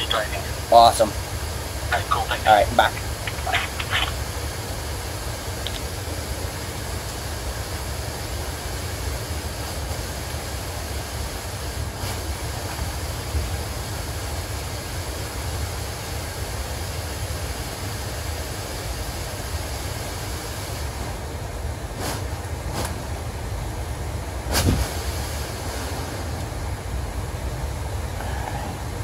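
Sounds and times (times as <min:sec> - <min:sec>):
fans hissing: 0:00.0 - 0:29.0
rooftop unit low rumble: 0:00.0 - 0:29.0.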